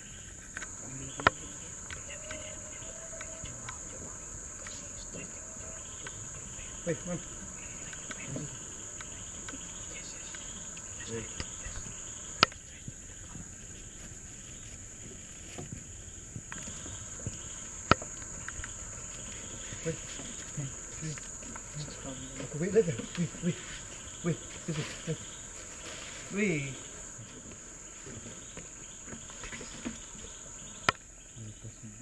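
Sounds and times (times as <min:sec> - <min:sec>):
insects chorus: 0:00.0 - 0:32.0.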